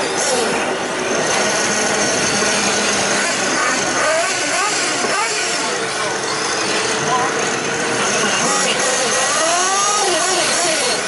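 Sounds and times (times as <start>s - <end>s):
electric motors whining: 0.0s - 11.0s
rc trucks racing: 0.0s - 11.0s.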